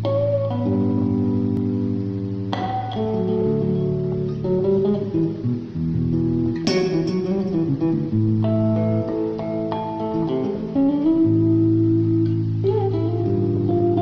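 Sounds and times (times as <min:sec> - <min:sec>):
electric bass guitar: 0:00.0 - 0:14.0.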